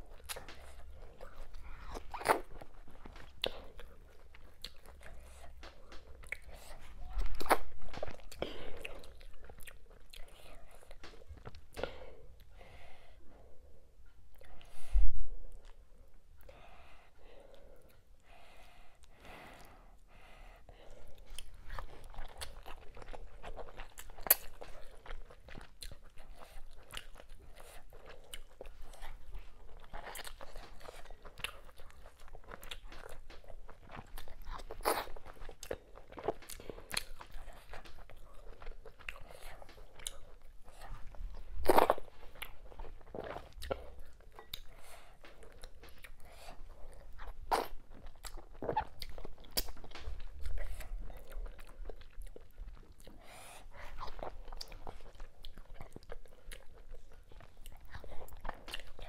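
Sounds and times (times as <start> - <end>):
wet chewing and lip smacks: 0.0 - 12.6, 20.9 - 59.0.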